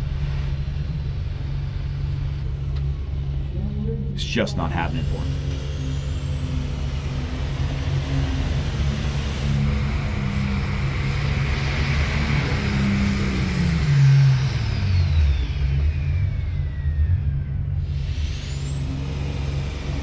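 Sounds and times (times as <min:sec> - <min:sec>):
turbo whine: 0:00.0 - 0:20.0.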